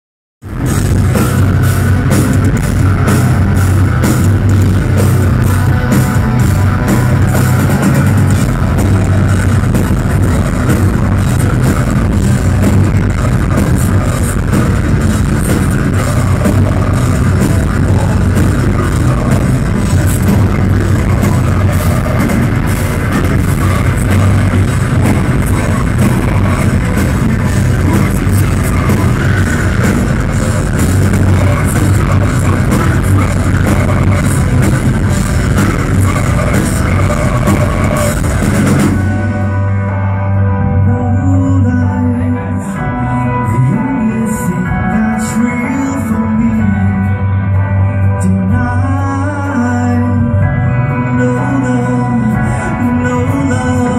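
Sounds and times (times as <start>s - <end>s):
live metal band playing: 0.4s - 53.9s.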